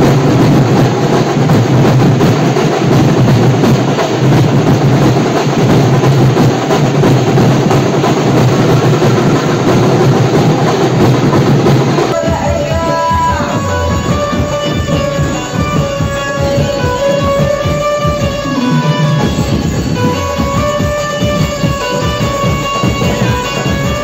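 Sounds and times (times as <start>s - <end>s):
loud drum-heavy music: 0.0s - 24.0s.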